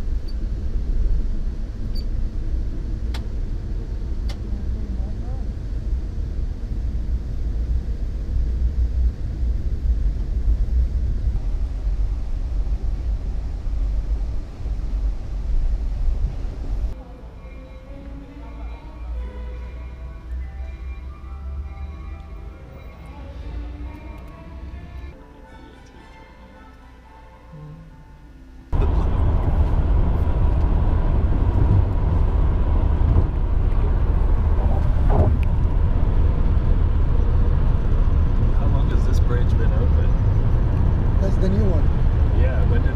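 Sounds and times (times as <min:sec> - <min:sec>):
vehicle rumble: 0:00.0 - 0:25.2, 0:27.5 - 0:42.9.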